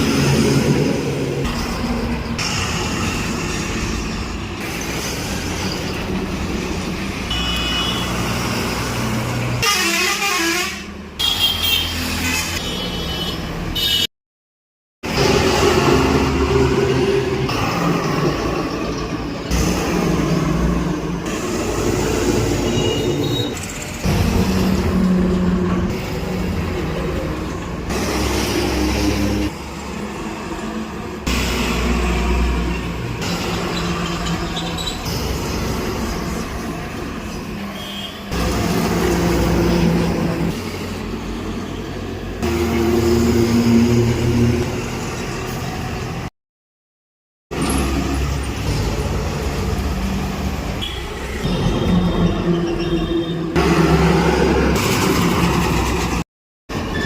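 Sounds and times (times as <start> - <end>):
truck engine rumbling: 0.0 - 11.3, 15.0 - 46.3, 47.5 - 57.0
traffic noise: 0.0 - 14.1, 15.0 - 46.3, 47.5 - 57.0.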